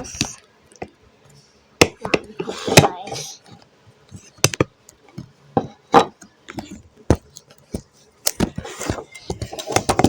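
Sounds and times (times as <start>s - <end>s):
toys knocking and clicking: 1.8s - 10.0s.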